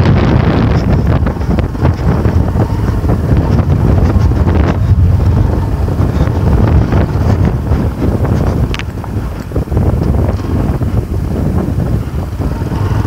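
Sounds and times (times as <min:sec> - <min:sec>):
low rumble: 0:00.0 - 0:11.6
wind buffeting on microphone: 0:00.0 - 0:13.0.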